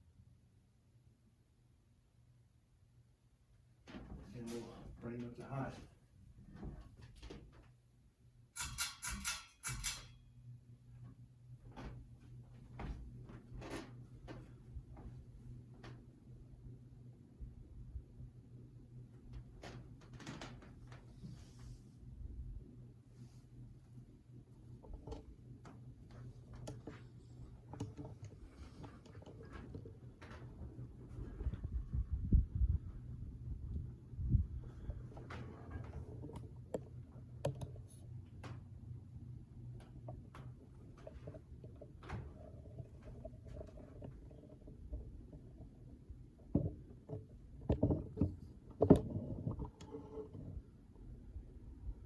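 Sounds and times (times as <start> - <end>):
ceiling fan motor hum: 2.9 - 52.0.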